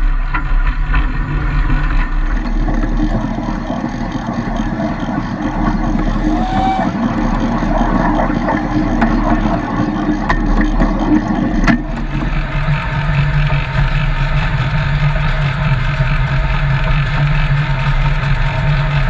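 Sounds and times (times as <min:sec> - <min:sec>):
train low hum in tunnel: 0:00.0 - 0:19.0
wheels clicking over rail joints: 0:00.0 - 0:19.0.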